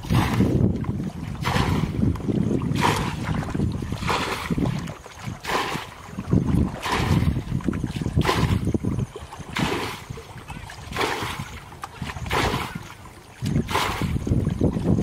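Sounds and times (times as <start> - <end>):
bucket scooping and splashing water: 0.0 - 15.0.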